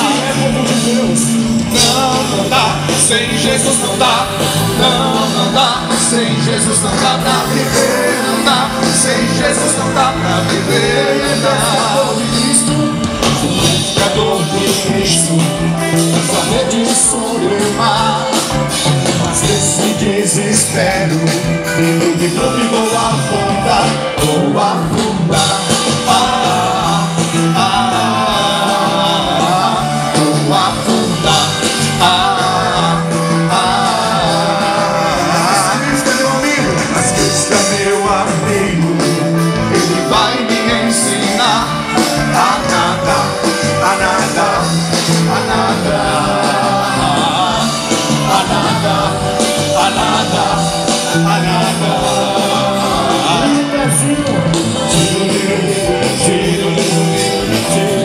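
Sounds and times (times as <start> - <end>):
drums: 0.0 - 58.0
electric guitars: 0.0 - 58.0
person singing: 0.0 - 58.0
worship band playing upbeat song: 0.0 - 58.0.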